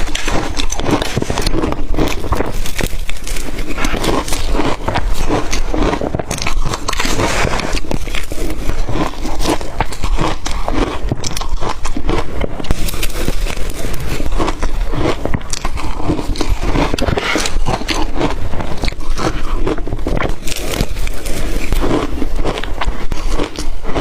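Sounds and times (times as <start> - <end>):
crushed ice being chewed: 0.0 - 24.0.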